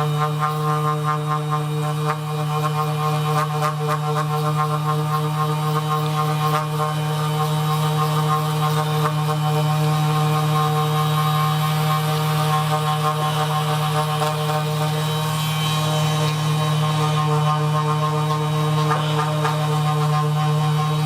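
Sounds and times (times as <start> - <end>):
low didgeridoo-like drone: 0.0 - 21.0.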